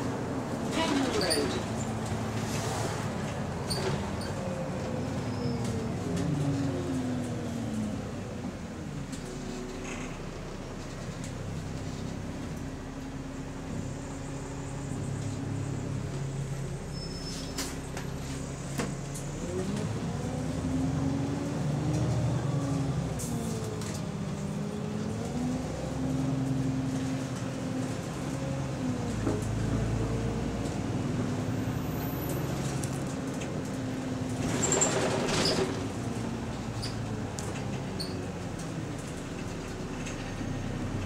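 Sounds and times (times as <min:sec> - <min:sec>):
bus engine accelerating: 0:00.0 - 0:41.0.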